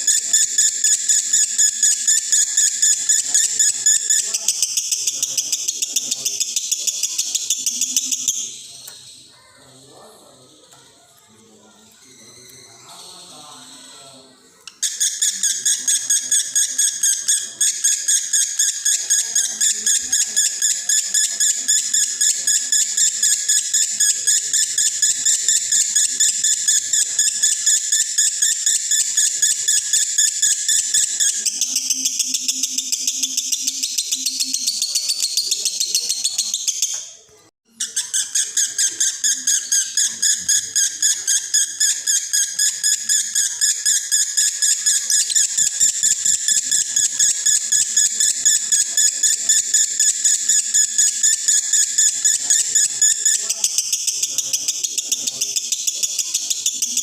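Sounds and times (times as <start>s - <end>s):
lovebird chattering high chirps: 0.0s - 9.6s, 14.7s - 57.0s.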